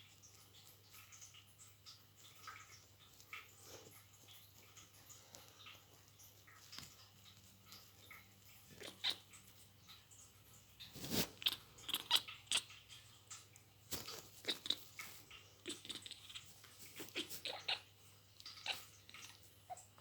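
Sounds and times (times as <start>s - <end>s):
kitten clicking and squeaking: 0.1s - 20.0s.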